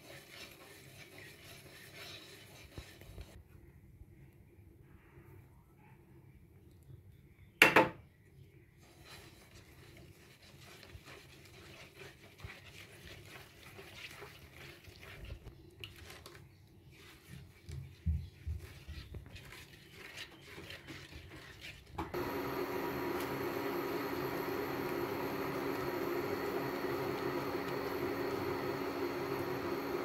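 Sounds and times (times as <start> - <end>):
spatula scraping in a pan: 0.0 - 3.4, 8.8 - 30.0.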